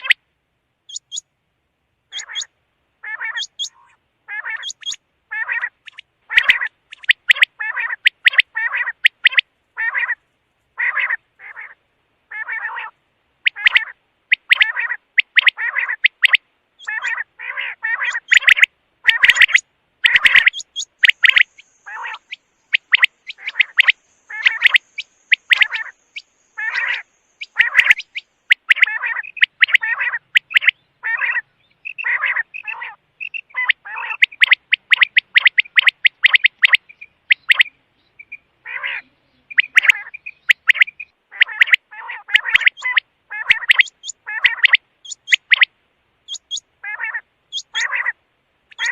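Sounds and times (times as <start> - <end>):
quail chirping calls: 0.0 - 0.2, 0.9 - 1.3, 2.1 - 10.2, 10.8 - 48.9.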